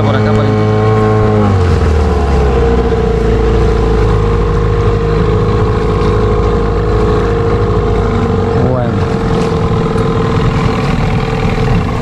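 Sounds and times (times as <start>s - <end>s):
boat motor running: 0.0s - 12.0s
water noise: 0.0s - 12.0s.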